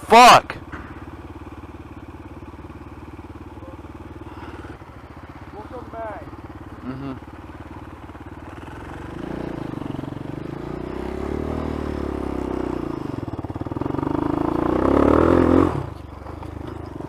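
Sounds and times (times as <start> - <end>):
dirt bike engine revving: 0.6 - 17.0.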